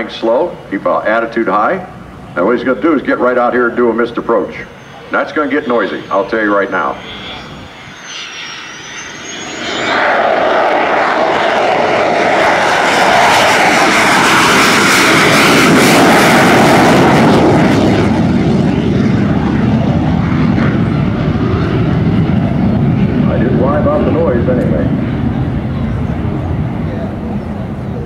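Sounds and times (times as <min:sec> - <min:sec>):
jet engine whine: 0:00.0 - 0:28.0
jet flying past: 0:00.0 - 0:28.0.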